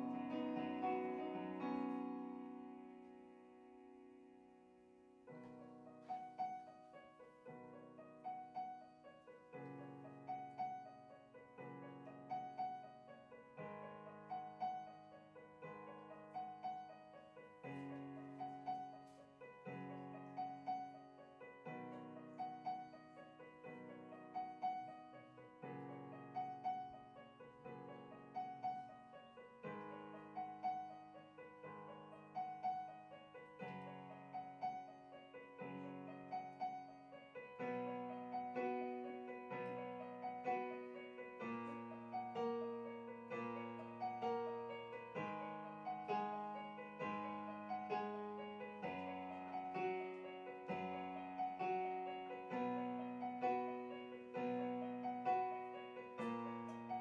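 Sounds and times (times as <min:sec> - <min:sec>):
solo piano playing: 0:00.0 - 0:57.0.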